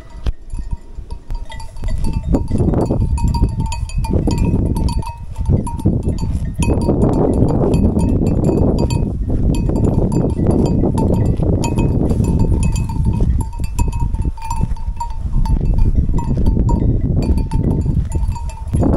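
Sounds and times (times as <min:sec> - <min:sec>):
livestock bells clinking: 0:00.0 - 0:18.9.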